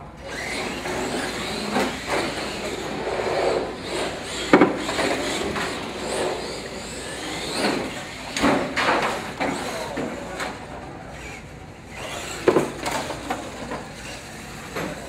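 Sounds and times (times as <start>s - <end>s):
toy truck motors whining: 0.2s - 15.0s.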